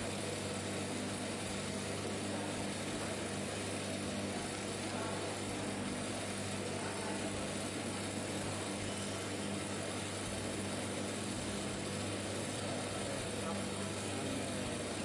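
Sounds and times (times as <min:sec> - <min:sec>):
hiss of tumbling coffee beans: 0:00.0 - 0:15.0
roaster motor hum: 0:00.0 - 0:15.0.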